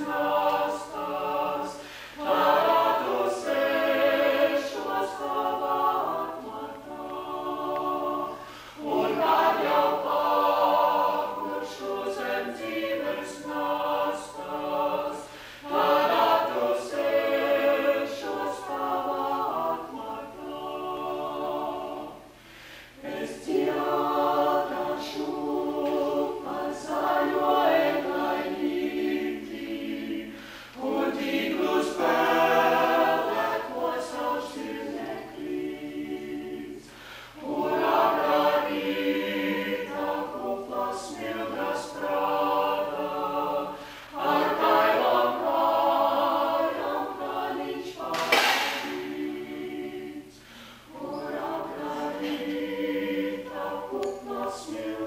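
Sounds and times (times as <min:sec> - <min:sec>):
vocal ensemble singing a cappella: 0:00.0 - 0:55.0.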